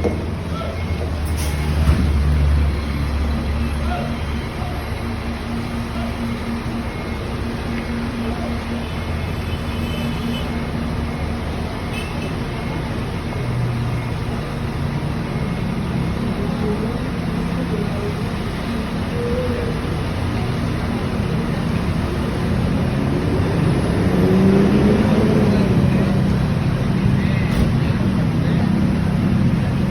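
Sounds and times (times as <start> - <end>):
bus engine humming: 0.0 - 29.9
roadside traffic noise: 0.0 - 29.9.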